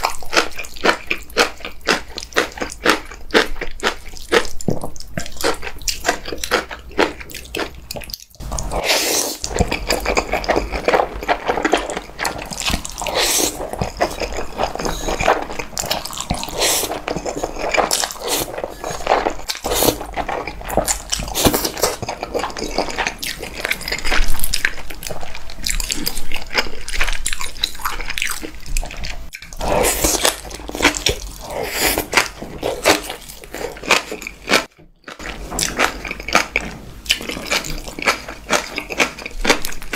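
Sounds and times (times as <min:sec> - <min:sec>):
slurping and chewing noodles: 0:00.0 - 0:39.9.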